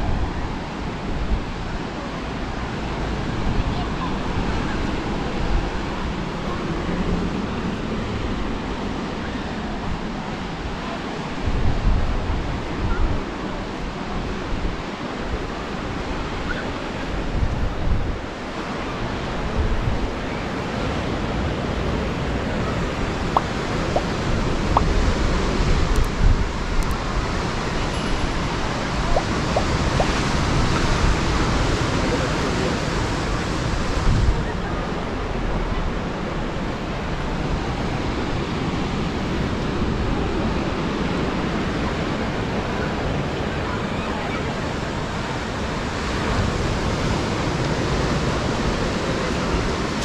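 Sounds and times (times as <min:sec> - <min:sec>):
ocean surf washing in: 0:00.0 - 0:50.0
wind buffeting microphone: 0:00.0 - 0:50.0.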